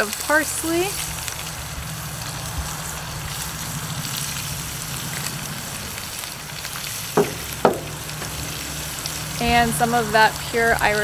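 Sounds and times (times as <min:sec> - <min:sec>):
squid sizzling in oil: 0:00.0 - 0:11.0
low rumble: 0:00.2 - 0:11.0.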